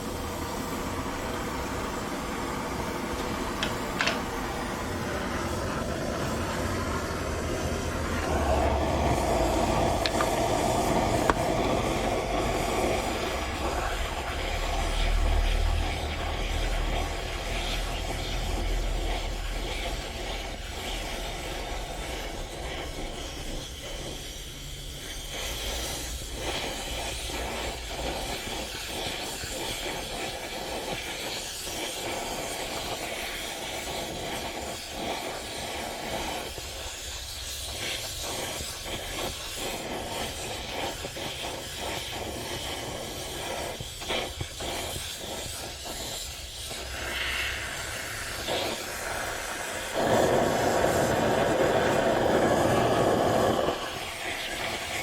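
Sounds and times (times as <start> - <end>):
gas torch flame hissing: 0.0 - 55.0.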